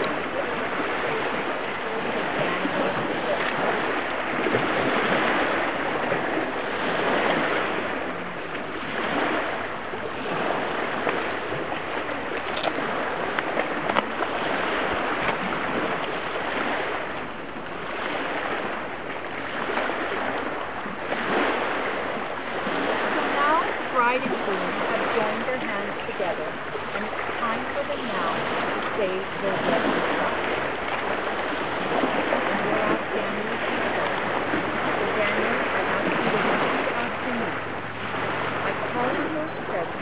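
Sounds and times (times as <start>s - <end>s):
lake waves washing on shore: 0.0s - 40.0s.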